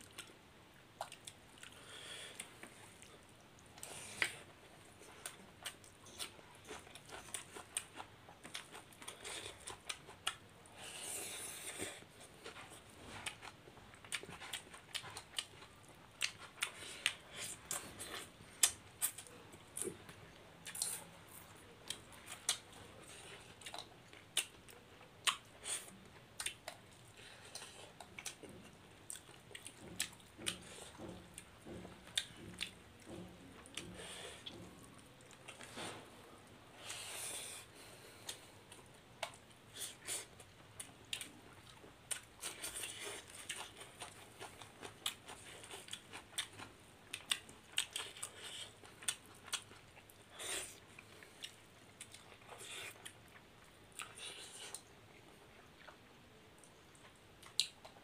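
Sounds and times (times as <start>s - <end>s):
chewing and lip-smacking: 1.0s - 10.5s, 11.1s - 35.7s, 38.2s - 58.0s.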